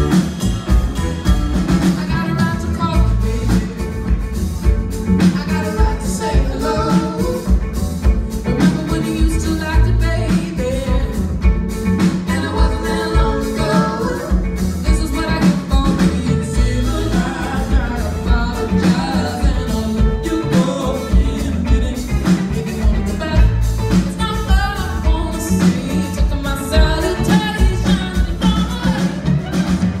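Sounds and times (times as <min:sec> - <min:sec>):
live band playing: 0:00.0 - 0:30.0
steady drum beat: 0:00.0 - 0:30.0
woman singing: 0:01.8 - 0:04.4, 0:05.0 - 0:30.0.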